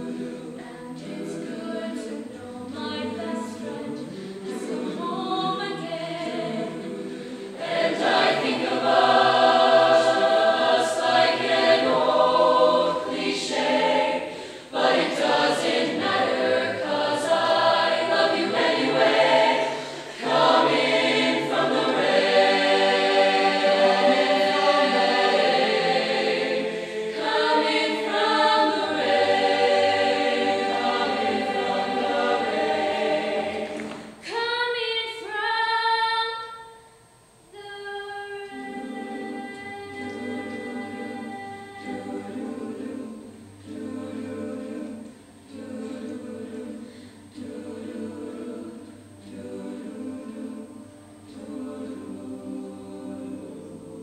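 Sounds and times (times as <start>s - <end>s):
choir singing a slow ballad: 0.0s - 36.9s, 37.6s - 54.0s.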